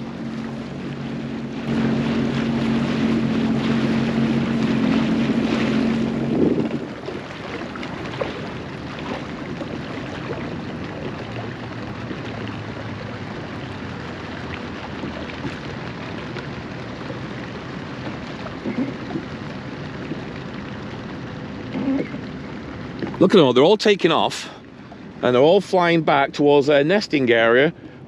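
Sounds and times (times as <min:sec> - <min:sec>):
birds splashing and wingbeats: 0:00.0 - 0:23.3
watercraft engine idling: 0:00.0 - 0:28.0.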